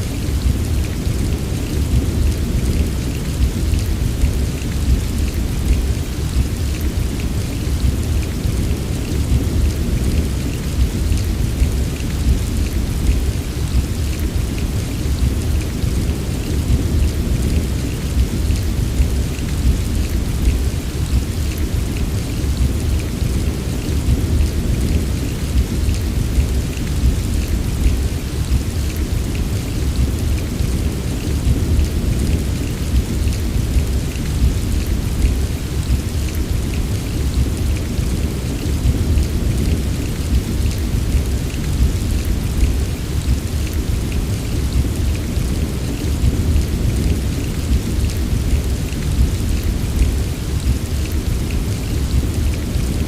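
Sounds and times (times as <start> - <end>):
heavy rain: 0.0 - 53.0
raindrops ticking: 0.1 - 53.0.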